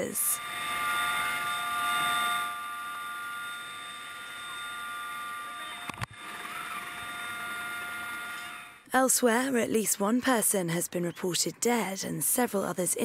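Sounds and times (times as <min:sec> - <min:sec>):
helicopter whine from inside cabin: 0:00.0 - 0:12.7.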